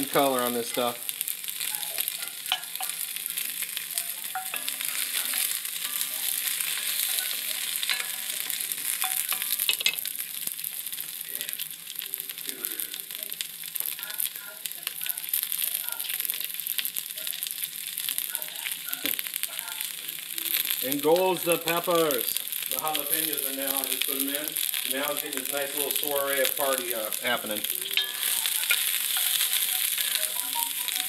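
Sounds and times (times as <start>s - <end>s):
onions sizzling in hot oil: 0.0s - 31.0s
utensil stirring in pot: 0.0s - 31.0s.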